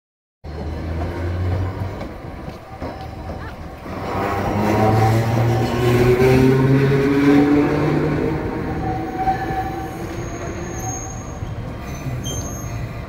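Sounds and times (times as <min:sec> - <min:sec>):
electric tram motors whining: 0:00.5 - 0:13.0
rail rumble: 0:00.5 - 0:13.0
high wheel squeals: 0:00.7 - 0:06.6, 0:07.3 - 0:13.0.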